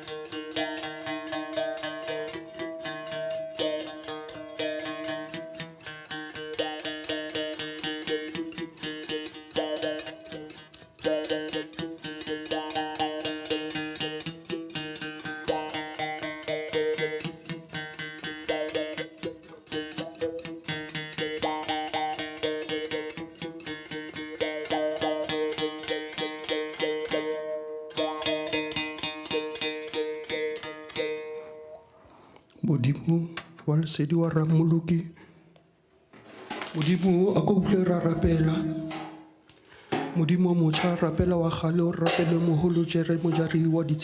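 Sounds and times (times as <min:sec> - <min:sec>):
rapidly picked string instrument: 0:00.0 - 0:32.3, 0:36.2 - 0:44.0.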